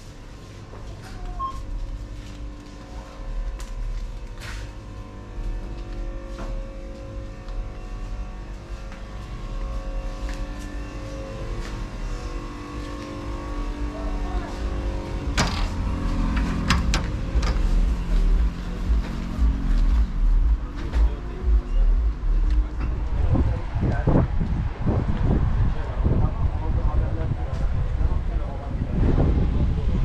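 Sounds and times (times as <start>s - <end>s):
car traffic rumble: 0.0s - 30.0s
supermarket background hum: 0.0s - 30.0s.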